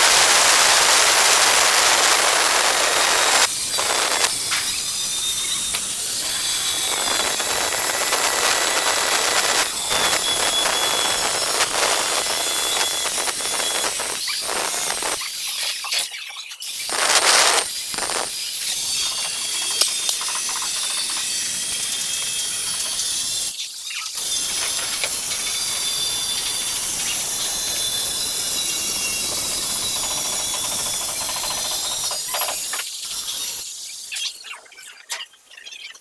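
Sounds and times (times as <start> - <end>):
angle grinder cutting tile: 0.0 - 16.1, 16.7 - 23.6, 24.2 - 34.4.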